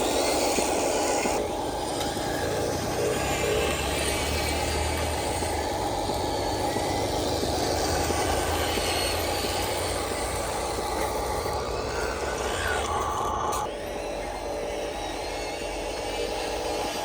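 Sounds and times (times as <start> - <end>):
model truck motor droning: 0.0 - 17.0.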